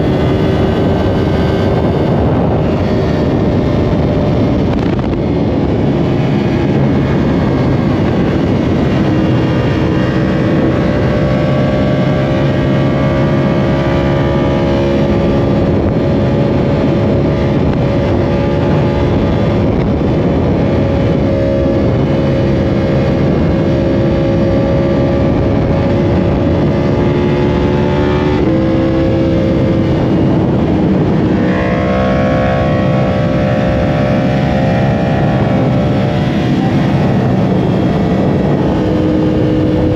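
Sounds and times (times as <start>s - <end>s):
motorcycle engine running at speed: 0.0s - 39.9s
rush of noise: 0.0s - 39.9s.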